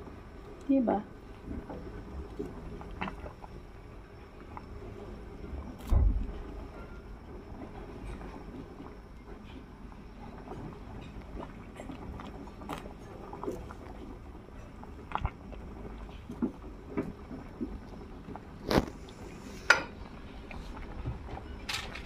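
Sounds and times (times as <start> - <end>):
broth bubbling in a pot: 0.0 - 22.0.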